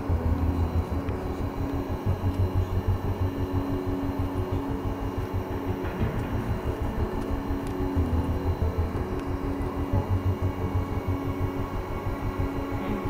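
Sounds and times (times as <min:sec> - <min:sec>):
aircraft cabin engine hum: 0:00.0 - 0:13.0
low rumble: 0:00.0 - 0:13.0.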